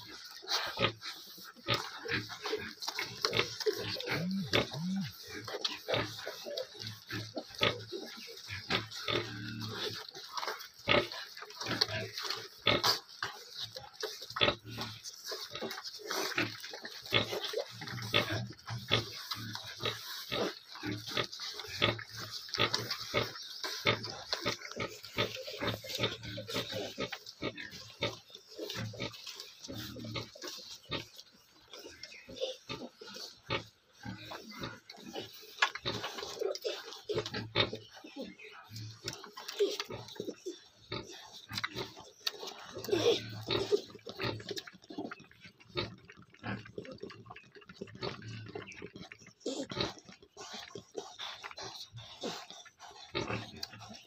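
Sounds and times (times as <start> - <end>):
low pig grunts: 0.0 - 10.0, 13.6 - 31.1, 31.9 - 54.0
piglets wet smacking and sucking: 0.0 - 54.0.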